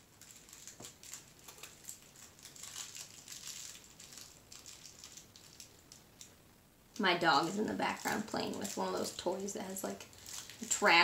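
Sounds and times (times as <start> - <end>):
crinkle toy crunching: 0.0 - 11.0.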